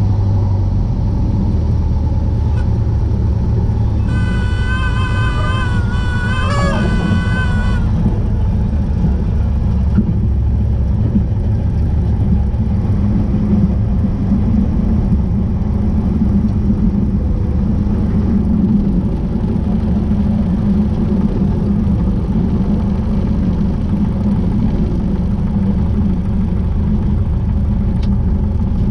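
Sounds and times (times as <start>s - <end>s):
small plane engine droning: 0.0s - 28.9s.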